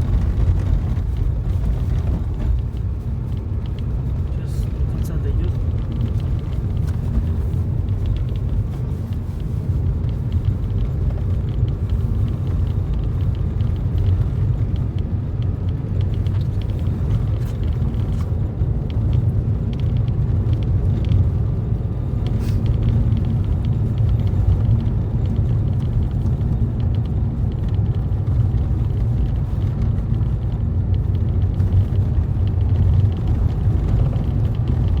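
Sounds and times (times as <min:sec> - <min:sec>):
vehicle driving on road: 0:00.0 - 0:35.0.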